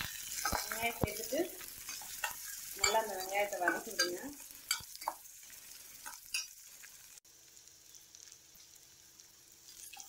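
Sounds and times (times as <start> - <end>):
shallots sizzling in oil: 0.0 - 10.0.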